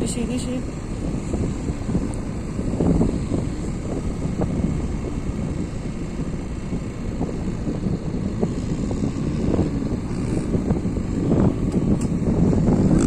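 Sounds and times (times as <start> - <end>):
vehicle low rumble: 0.0 - 13.0.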